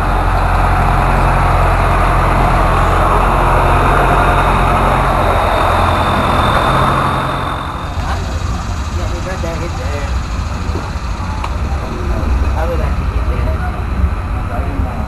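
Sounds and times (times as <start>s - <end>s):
train engine humming: 0.0s - 15.0s.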